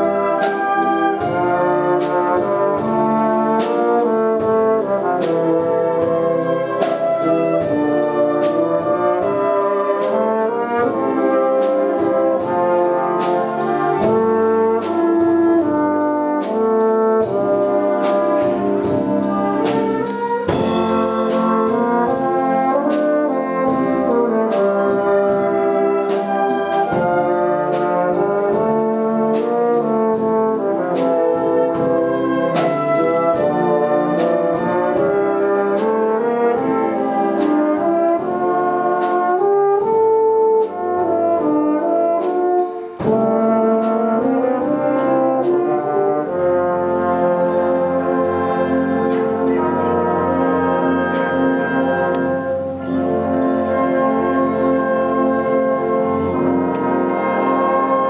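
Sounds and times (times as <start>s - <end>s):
wind band playing: 0.0s - 58.0s
percussion strokes: 0.4s - 38.2s, 42.0s - 58.0s.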